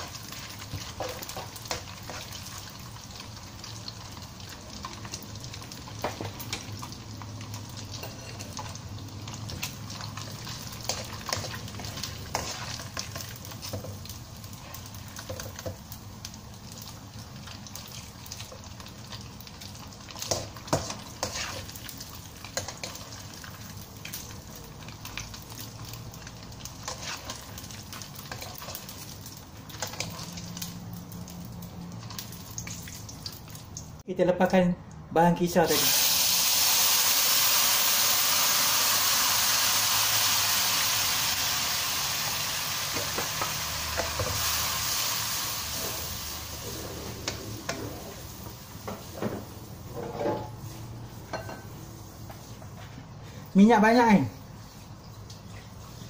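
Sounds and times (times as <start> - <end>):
fish sizzling in hot oil: 0.0 - 33.8, 35.6 - 49.9.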